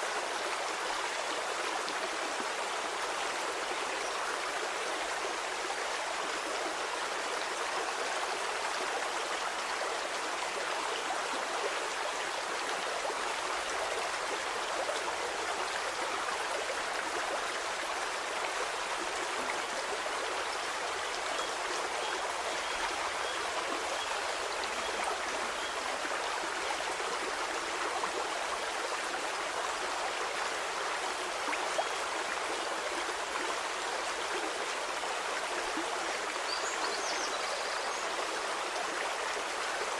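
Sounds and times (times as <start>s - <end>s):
stream of flowing water: 0.0s - 39.9s.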